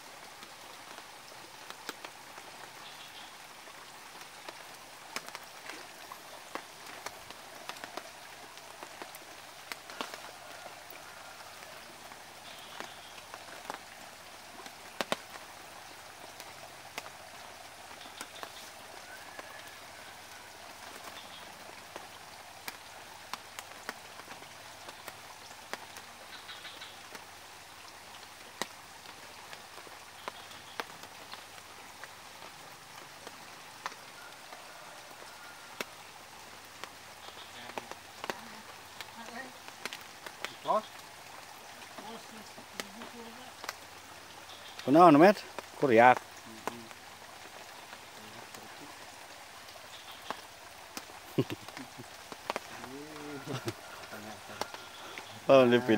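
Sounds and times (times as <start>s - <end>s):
faint water hiss: 0.0s - 55.9s
small ticks and patters: 0.2s - 55.9s.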